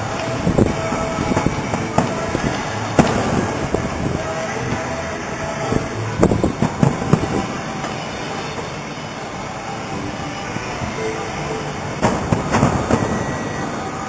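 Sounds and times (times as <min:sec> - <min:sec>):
crowd and street noise: 0:00.0 - 0:14.0.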